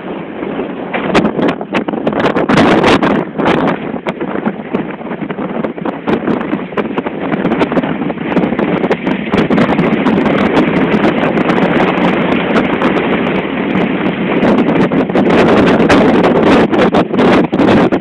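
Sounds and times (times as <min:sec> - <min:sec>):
rough sea wash: 0:00.0 - 0:18.0
wind buffeting microphone: 0:00.0 - 0:18.0.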